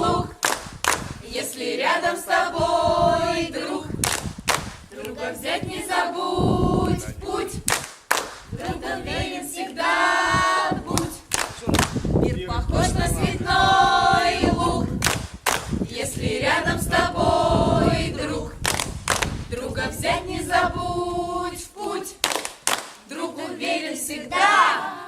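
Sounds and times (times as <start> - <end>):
group of voices singing: 0.0 - 4.2, 4.8 - 7.8, 8.5 - 22.4, 23.0 - 25.0.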